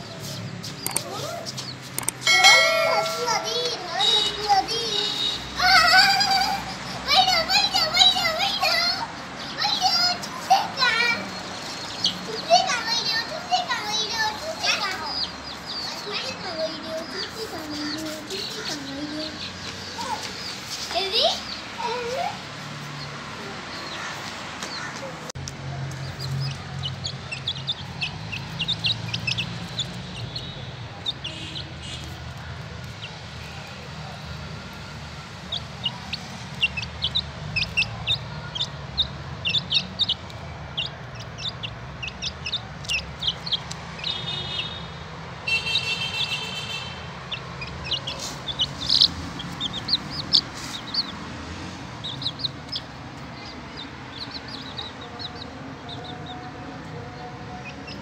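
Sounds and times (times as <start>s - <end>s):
chicks peeping: 0.0s - 22.2s, 25.9s - 33.4s, 35.4s - 58.0s.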